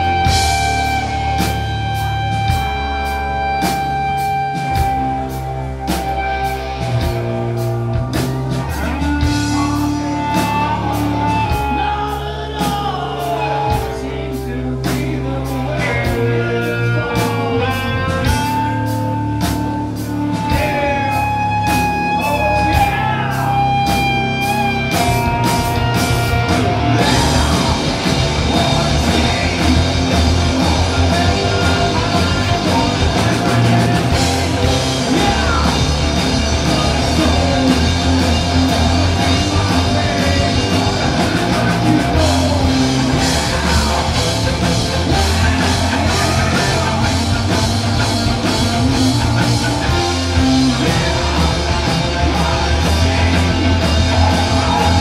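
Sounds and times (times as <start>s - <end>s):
electric guitar melody: 0.0s - 55.0s
live rock band playing: 0.0s - 55.0s.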